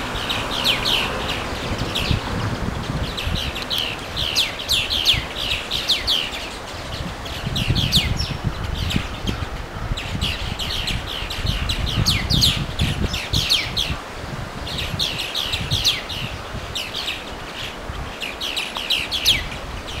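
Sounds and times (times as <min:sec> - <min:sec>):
small songbirds singing: 0:00.0 - 0:20.0.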